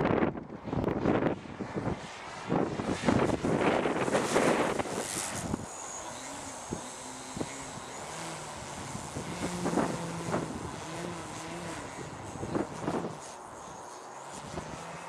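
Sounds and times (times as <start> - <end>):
model plane motor humming: 0.0 - 15.0
wind gusts on microphone: 0.0 - 15.0.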